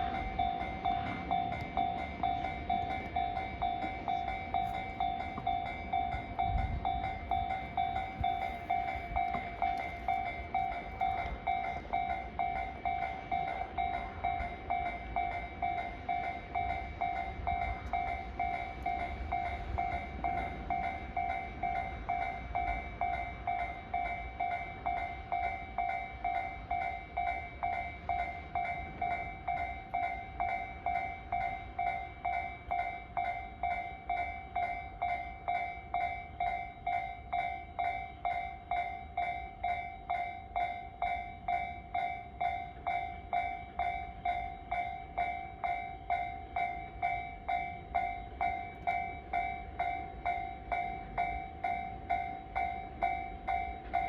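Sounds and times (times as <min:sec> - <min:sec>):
level crossing warning bell: 0:00.0 - 0:54.0.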